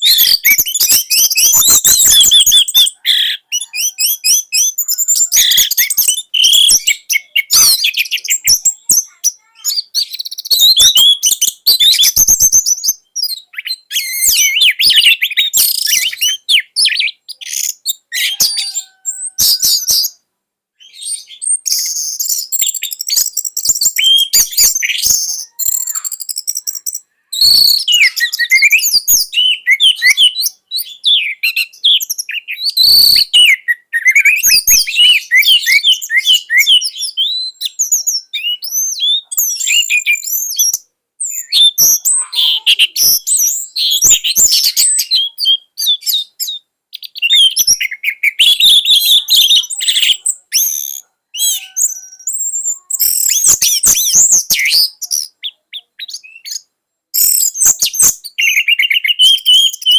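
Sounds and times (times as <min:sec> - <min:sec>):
thrush singing chirps and whistles: 0:00.0 - 0:20.2, 0:20.8 - 0:59.9.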